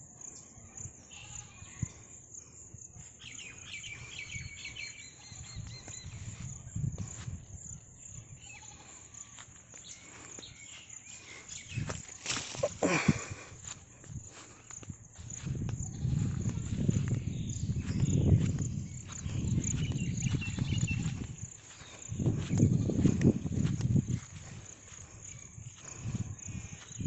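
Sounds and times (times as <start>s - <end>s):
birds chirping: 3.0s - 27.0s.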